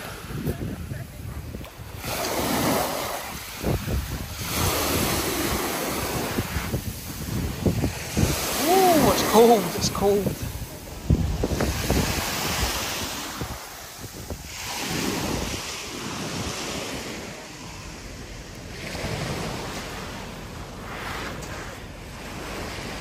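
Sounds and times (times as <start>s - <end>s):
small waves washing: 0.0s - 23.0s
wind buffeting microphone: 0.0s - 23.0s.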